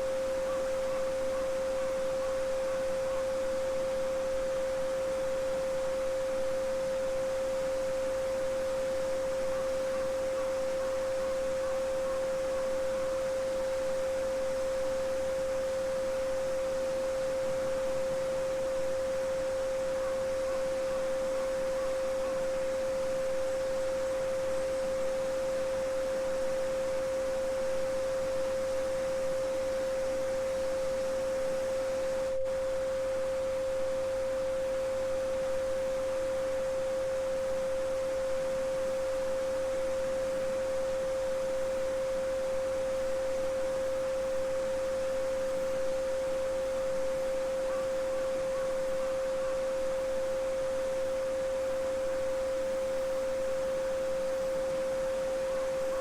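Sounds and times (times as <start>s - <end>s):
steady sine tone: 0.0s - 56.0s.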